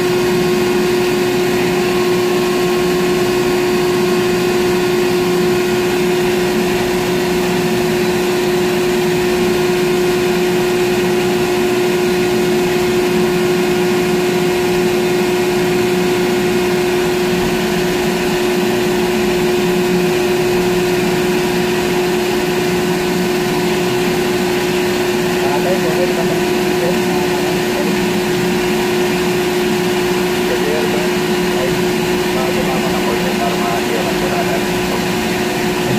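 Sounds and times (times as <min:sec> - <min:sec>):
crane machinery humming and whining: 0:00.0 - 0:35.9.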